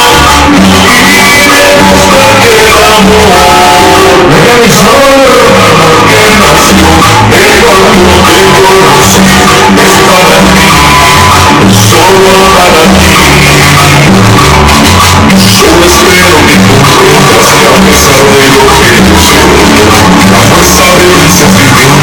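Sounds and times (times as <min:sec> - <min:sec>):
heavy bass line: 0:00.0 - 0:22.0
loud dance music: 0:00.0 - 0:22.0
voice over music: 0:00.0 - 0:22.0.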